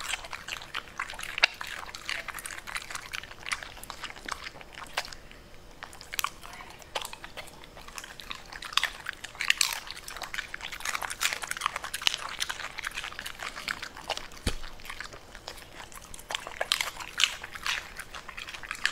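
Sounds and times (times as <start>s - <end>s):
dog chewing cabbage leaves: 0.0s - 18.9s.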